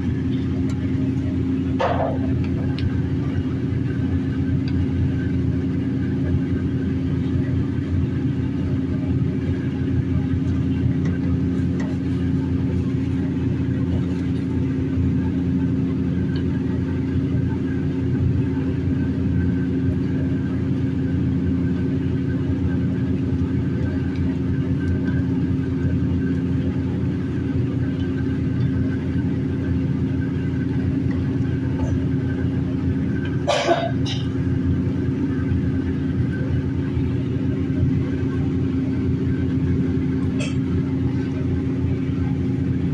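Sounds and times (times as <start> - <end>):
low rumbling hum: 0.0 - 42.9.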